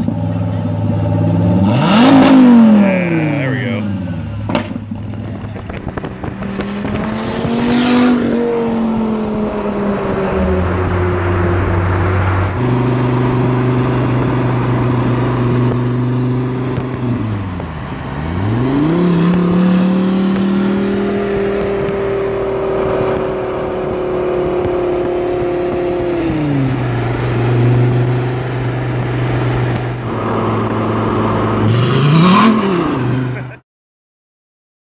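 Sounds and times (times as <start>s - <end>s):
car engine revving: 0.0s - 33.6s.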